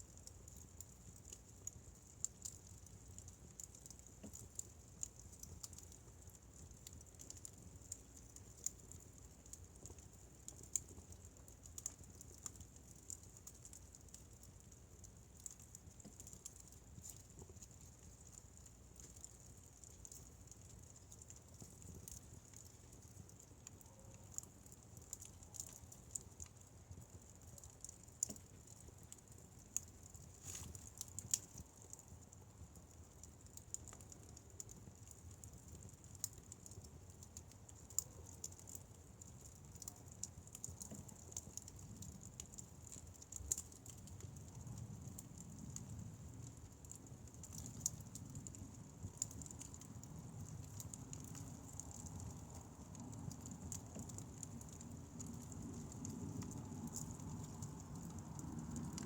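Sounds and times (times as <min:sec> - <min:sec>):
fire pops and crackles: 0:00.0 - 0:59.0
low rumble of flames: 0:00.0 - 0:59.0.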